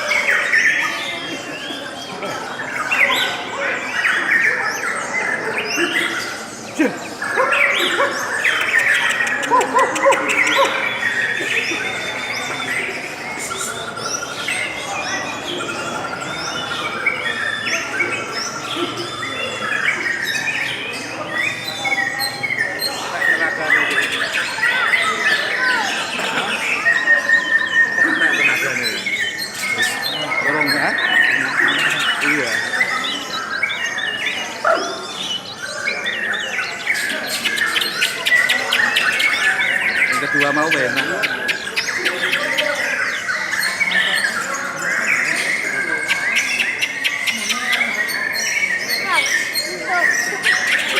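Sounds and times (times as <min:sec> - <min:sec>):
lovebirds chattering: 0:00.0 - 0:50.9.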